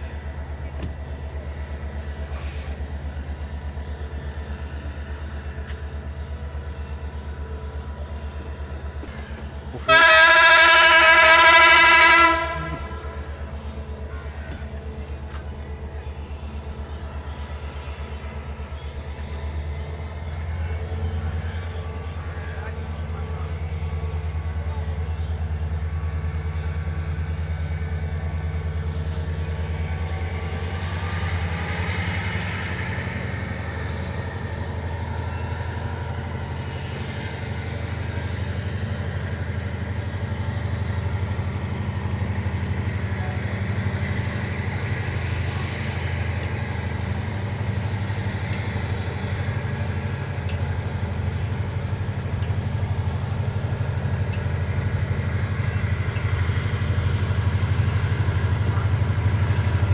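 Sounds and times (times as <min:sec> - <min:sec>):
diesel train engine running: 0:00.0 - 0:59.9.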